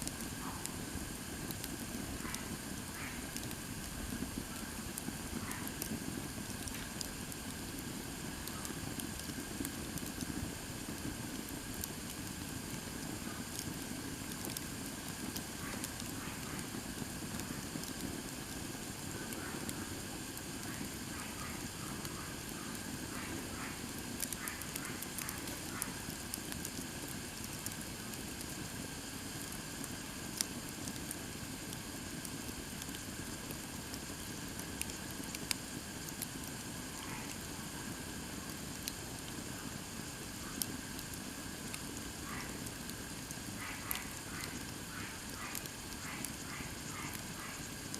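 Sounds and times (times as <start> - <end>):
campfire flames rushing: 0.0 - 47.9
wood crackling and popping: 0.0 - 47.9.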